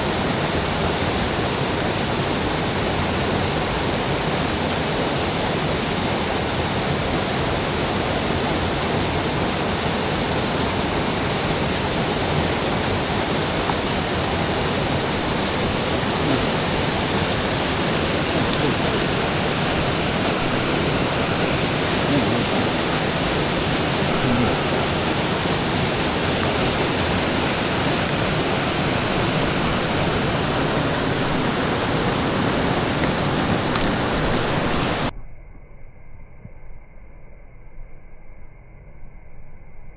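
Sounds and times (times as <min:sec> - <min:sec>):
mountain stream rushing: 0:00.0 - 0:35.1.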